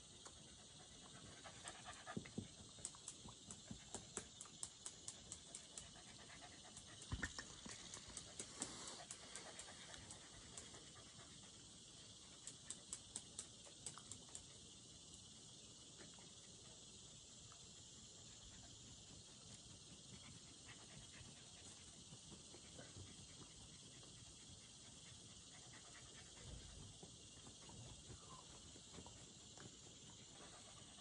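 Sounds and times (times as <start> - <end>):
dog panting: 0.2 - 13.0, 18.2 - 31.0.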